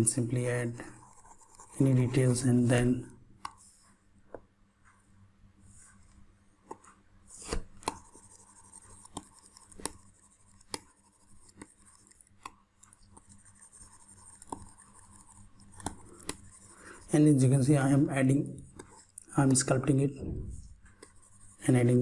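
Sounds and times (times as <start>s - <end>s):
stylus scratching on tablet: 0.0s - 4.0s, 5.7s - 22.0s.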